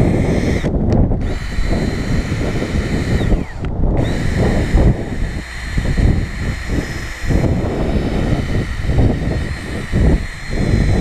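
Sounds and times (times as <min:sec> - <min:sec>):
buffing tool whining: 0:00.0 - 0:11.0
wind rumble on microphone: 0:00.0 - 0:11.0.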